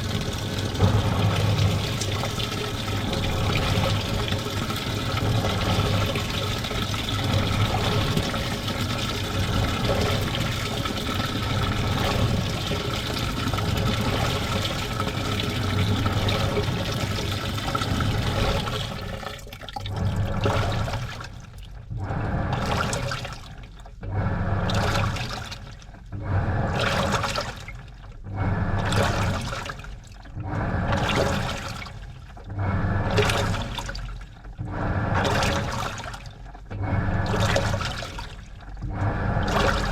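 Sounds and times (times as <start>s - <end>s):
low motor hum: 0.0s - 39.9s
washing machine drum churning: 0.0s - 39.9s
washing machine sloshing water: 0.0s - 39.9s.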